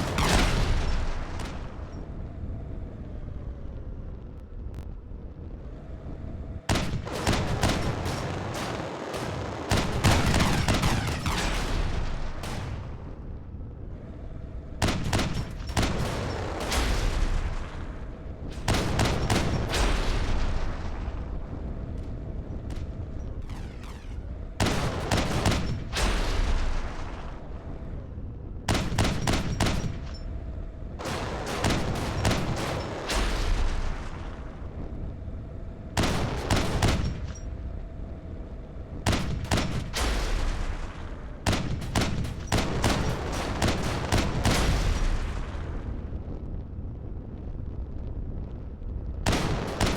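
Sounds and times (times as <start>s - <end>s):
rapid bangs and crackles: 0.0s - 49.9s.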